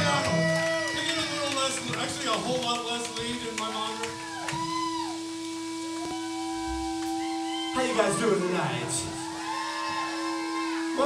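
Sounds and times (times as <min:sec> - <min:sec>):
steady held note: 0:00.0 - 0:11.0
sliding pitched tones: 0:01.2 - 0:11.0.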